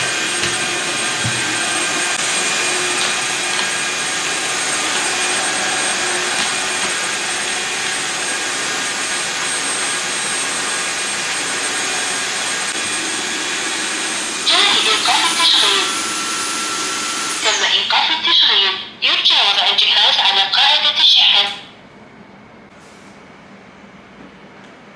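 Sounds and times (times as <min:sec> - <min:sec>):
floor cleaner motor hiss and whine: 0:00.0 - 0:21.6.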